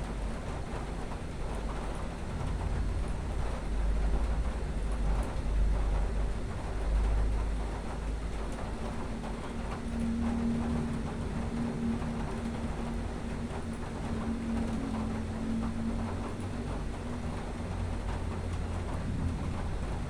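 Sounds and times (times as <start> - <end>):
steady hum: 0.0 - 20.0
thunder rumble: 0.1 - 20.0.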